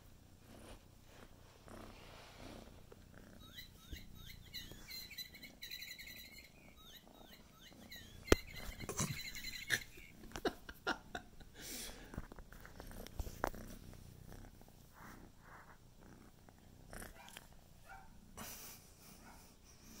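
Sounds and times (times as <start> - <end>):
kitten purring: 0.0 - 20.0.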